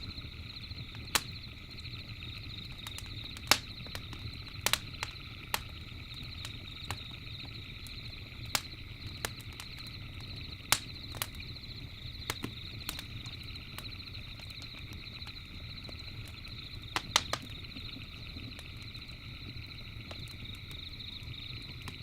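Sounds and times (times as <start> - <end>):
campfire crackling: 0.0 - 22.0
trilling night insect chorus: 0.0 - 22.0.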